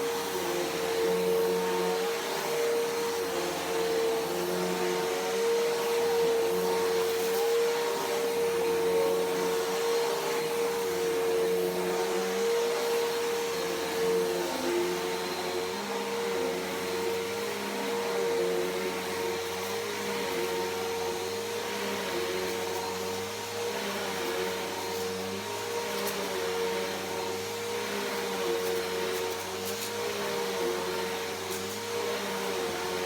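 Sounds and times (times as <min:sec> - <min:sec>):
upright vacuum cleaner running: 0:00.0 - 0:33.0.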